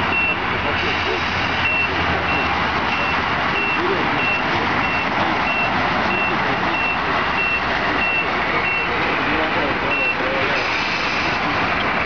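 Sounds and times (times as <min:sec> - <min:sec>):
reversing beeper: 0:00.0 - 0:11.4
faint voices: 0:00.0 - 0:12.0.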